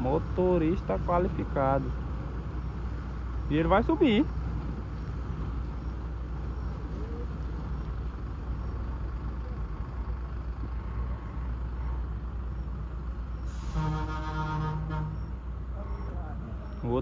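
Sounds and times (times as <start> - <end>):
truck engine rumbling under load: 0.0 - 17.0.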